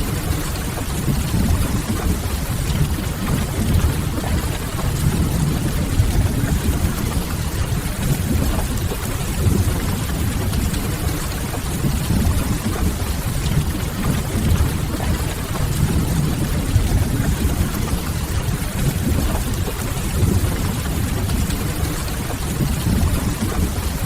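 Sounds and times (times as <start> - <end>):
deep continuous rumble: 0.0 - 24.0
steady rain: 0.0 - 24.0.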